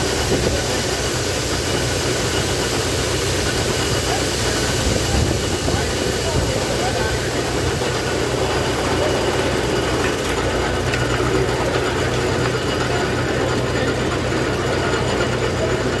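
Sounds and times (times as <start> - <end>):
belt-driven corn chopper running: 0.0 - 16.0
engine running low: 0.0 - 16.0.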